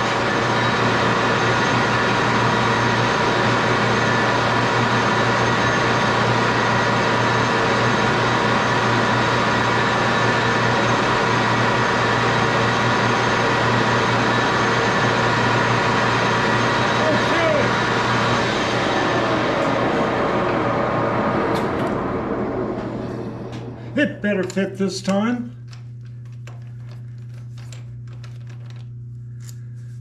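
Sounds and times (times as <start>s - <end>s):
metal lathe humming and whining: 0.0s - 28.0s.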